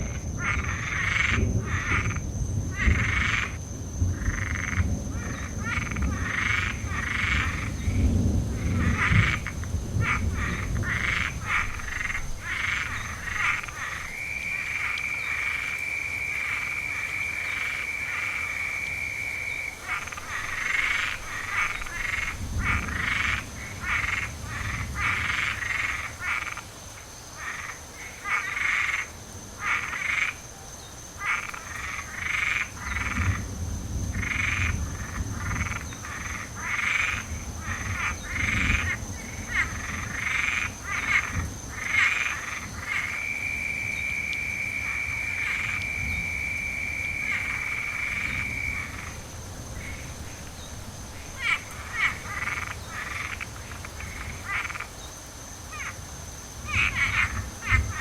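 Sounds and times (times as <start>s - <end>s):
distant thunder rumbling: 0.0s - 26.6s, 31.2s - 54.9s, 56.6s - 58.0s
frogs croaking: 0.0s - 58.0s.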